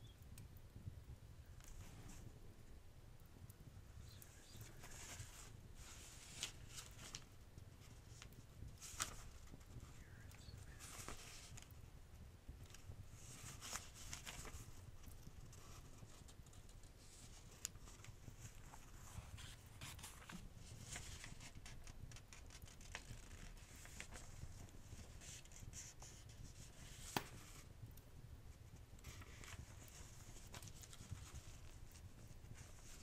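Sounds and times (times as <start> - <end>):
fireplace crackling: 0.0 - 33.0.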